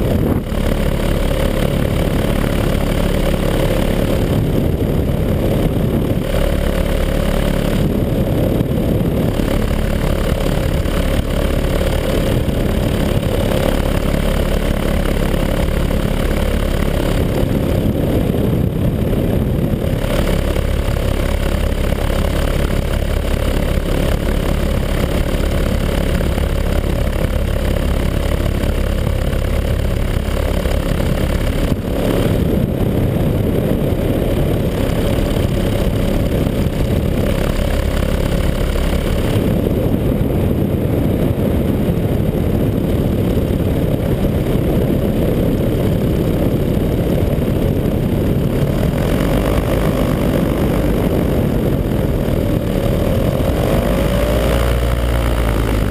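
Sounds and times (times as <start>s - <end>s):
paramotor engine and propeller: 0.0s - 55.9s.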